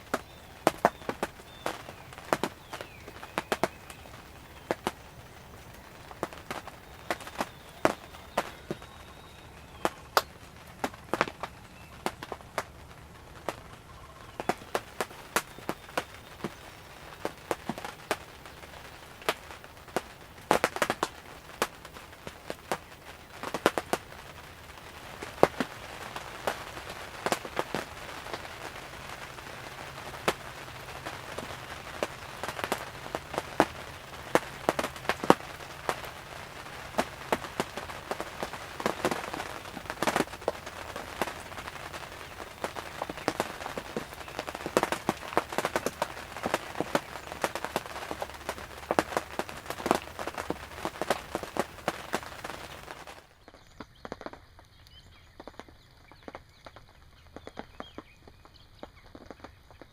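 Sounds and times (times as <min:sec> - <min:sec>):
hiss of rain: 0:00.0 - 0:59.9
raindrops tapping on fabric: 0:00.0 - 0:59.9.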